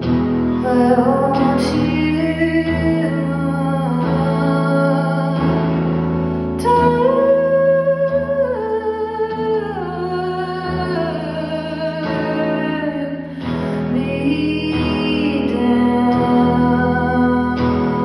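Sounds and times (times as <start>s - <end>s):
electric guitar: 0.0s - 18.0s
woman singing: 0.0s - 18.0s.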